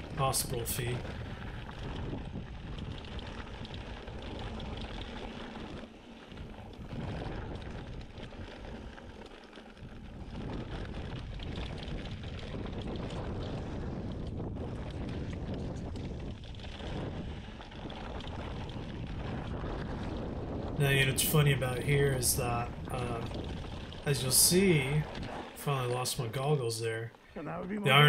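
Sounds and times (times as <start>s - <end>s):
bike tyres crunching on rocky trail: 0.0s - 26.4s
wind buffeting microphone: 0.0s - 28.0s.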